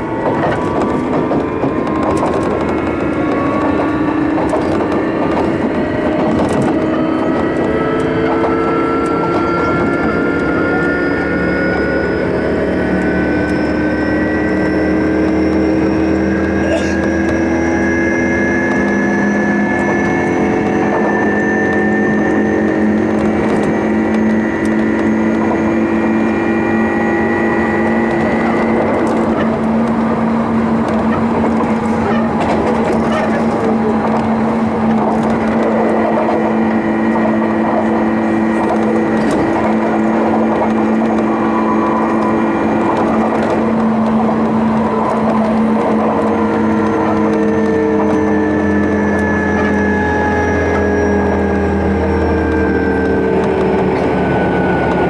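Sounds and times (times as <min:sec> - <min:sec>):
inverter and motor tones: 0:00.0 - 0:55.0
train wheel and rail noise: 0:00.0 - 0:55.0.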